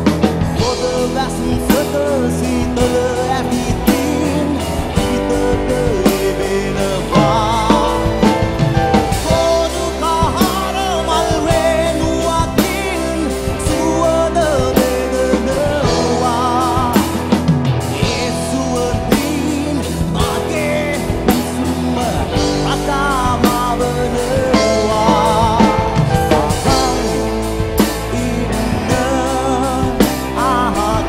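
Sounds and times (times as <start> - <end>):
drum kit: 0.0 - 31.0
electric guitar: 0.0 - 31.0
man singing with vibrato: 0.0 - 31.0.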